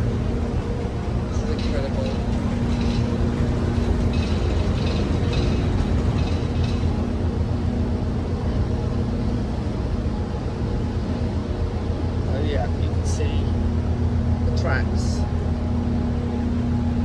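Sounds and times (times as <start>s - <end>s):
ship engines humming: 0.0s - 17.0s.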